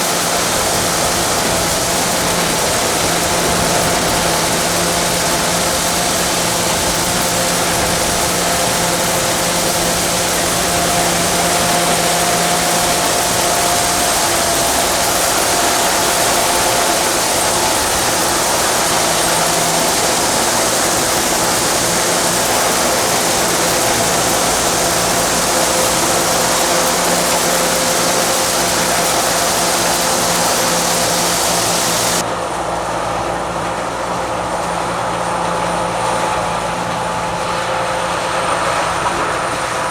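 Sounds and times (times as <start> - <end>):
strong high hiss: 0.0 - 32.2
combine harvester running: 0.0 - 39.9
steady machinery whines: 0.0 - 39.9.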